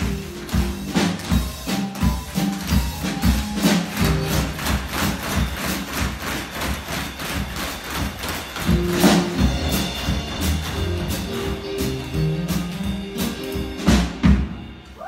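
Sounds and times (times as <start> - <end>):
tap shoes clicking on stage: 0.0 - 14.2
loud band closing hits: 0.0 - 14.8
live band playing: 0.0 - 15.0.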